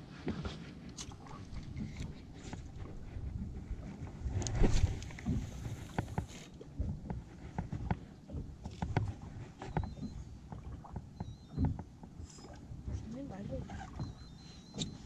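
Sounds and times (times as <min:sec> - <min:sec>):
knocks and clicks on boat: 0:00.0 - 0:15.0
low rumble of boat and water: 0:00.0 - 0:15.0.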